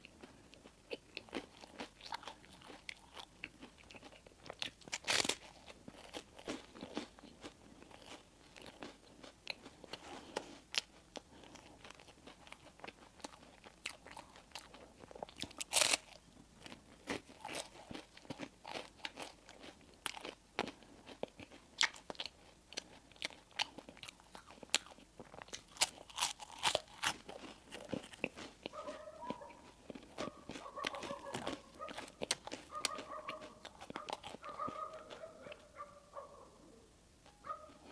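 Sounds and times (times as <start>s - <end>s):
crunching and chewing: 0.0s - 36.4s, 37.2s - 37.9s.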